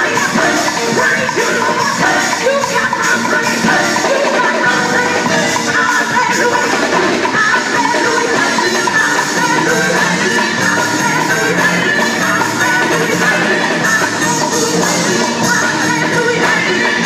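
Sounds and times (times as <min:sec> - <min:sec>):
band playing: 0:00.0 - 0:17.0
women singing gospel: 0:00.0 - 0:17.0.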